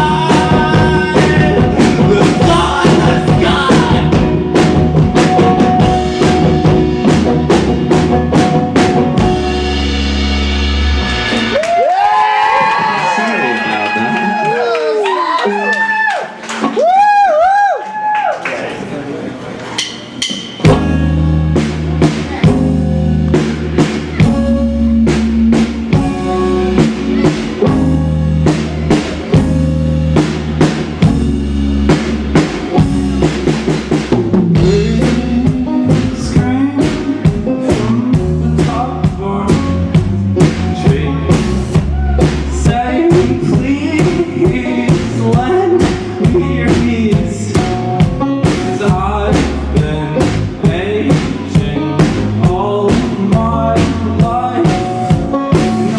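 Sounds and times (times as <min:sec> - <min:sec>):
drum kit beat: 0:00.0 - 0:14.6, 0:19.8 - 0:55.9
rock band playing: 0:00.0 - 0:17.6, 0:19.7 - 0:55.9.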